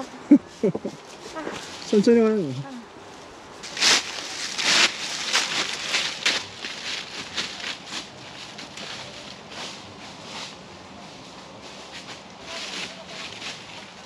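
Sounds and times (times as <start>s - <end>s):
footsteps crunching dry leaves: 0.3s - 14.0s.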